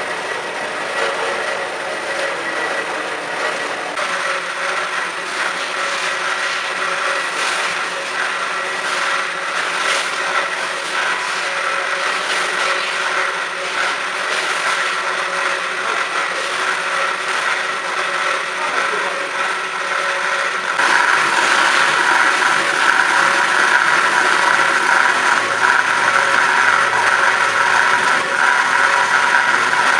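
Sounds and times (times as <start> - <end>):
band saw whining: 0.0 - 29.9.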